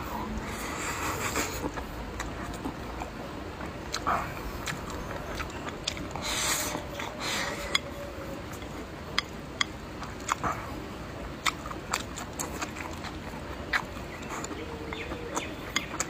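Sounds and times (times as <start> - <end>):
chewing: 0.1 - 16.0.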